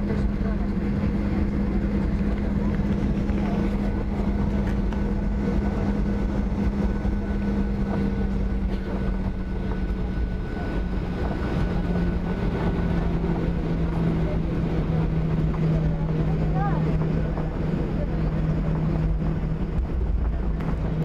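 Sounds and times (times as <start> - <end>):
jet engines hum in cabin: 0.0 - 21.0.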